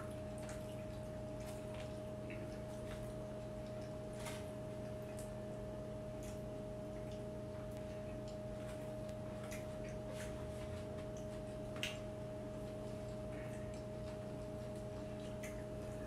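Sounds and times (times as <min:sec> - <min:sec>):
soft eating clicks and taps: 0:00.0 - 0:05.5, 0:06.1 - 0:16.0
steady low hum: 0:00.0 - 0:16.0.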